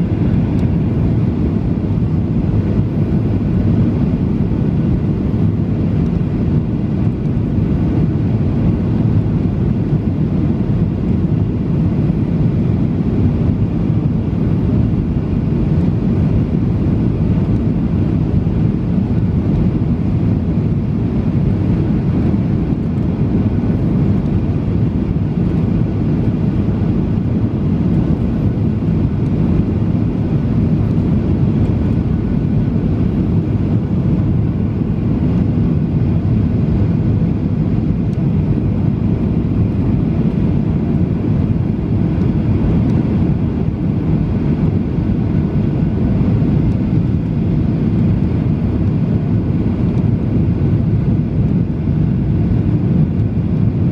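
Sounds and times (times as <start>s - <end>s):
airliner cabin engine rush: 0.0s - 53.9s.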